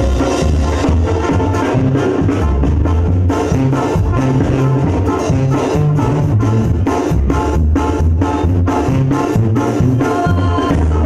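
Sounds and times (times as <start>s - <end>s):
bass line: 0.0s - 11.0s
brass ensemble: 0.0s - 11.0s
drums dance beat: 0.0s - 11.0s.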